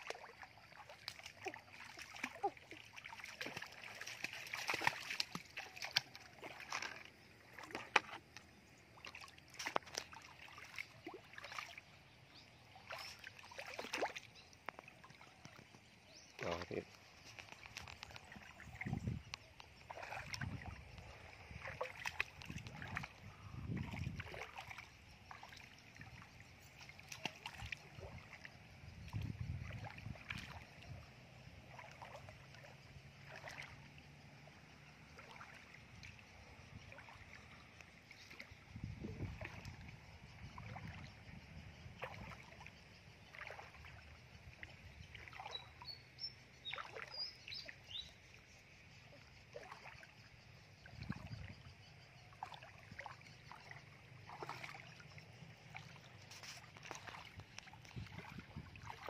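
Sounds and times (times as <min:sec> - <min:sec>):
feet wading through muddy water: 0:00.0 - 0:59.0.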